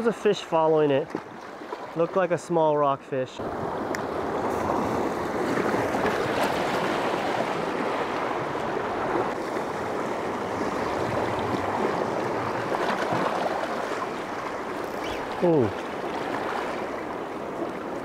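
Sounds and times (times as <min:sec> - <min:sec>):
sea surf on rocky shore: 0:00.0 - 0:18.0.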